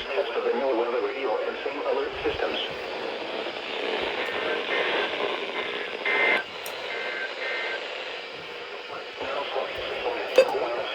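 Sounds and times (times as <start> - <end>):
radio static: 0.0 - 10.9.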